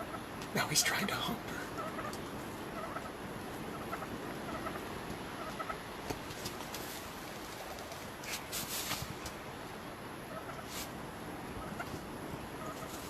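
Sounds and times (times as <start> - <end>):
turkeys clucking: 0.0 - 8.4, 10.2 - 13.0
rustle: 0.0 - 13.0
steady hiss: 0.3 - 13.0.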